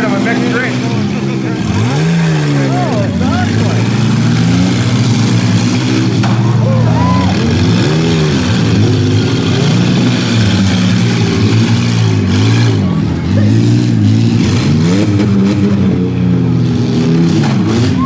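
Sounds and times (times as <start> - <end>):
minivan engines revving: 0.0 - 18.0.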